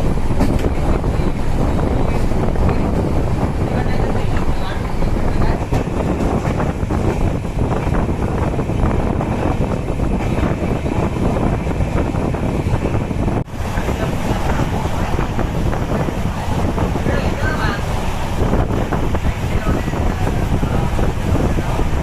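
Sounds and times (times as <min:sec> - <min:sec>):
low rumble: 0:00.0 - 0:22.0
wind buffeting microphone: 0:00.0 - 0:22.0.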